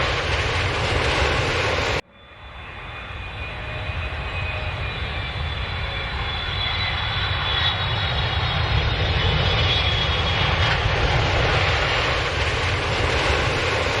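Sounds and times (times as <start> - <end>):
airplane engines rumbling: 0.0 - 14.0.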